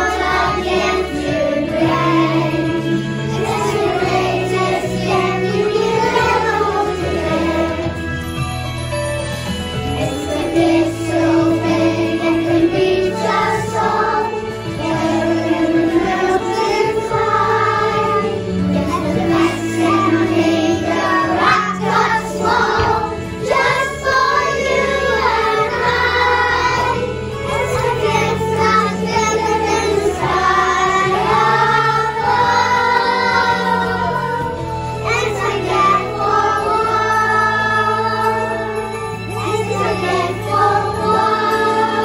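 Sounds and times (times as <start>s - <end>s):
children's choir singing: 0.0s - 8.2s, 10.0s - 42.0s
instrumental backing with bass notes: 0.0s - 42.0s.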